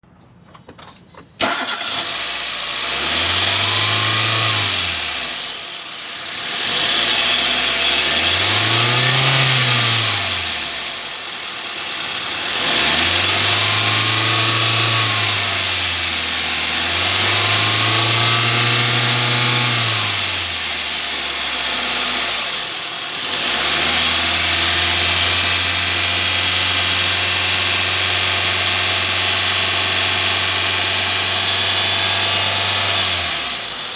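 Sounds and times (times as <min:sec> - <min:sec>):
car engine starting and revving: 0:01.4 - 0:33.9.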